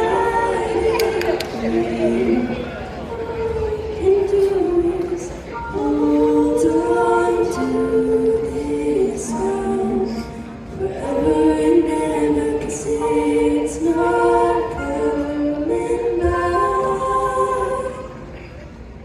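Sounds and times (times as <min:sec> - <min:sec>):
choir singing wordless chords: 0:00.0 - 0:18.6.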